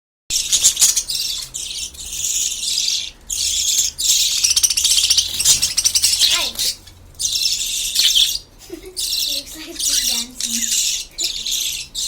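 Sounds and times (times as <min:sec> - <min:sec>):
baby birds begging calls: 0:00.3 - 0:12.0.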